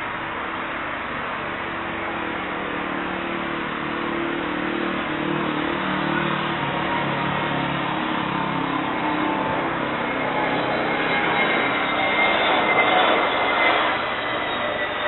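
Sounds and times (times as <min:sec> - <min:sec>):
airliner approaching: 0:00.0 - 0:15.0
road traffic: 0:00.0 - 0:15.0.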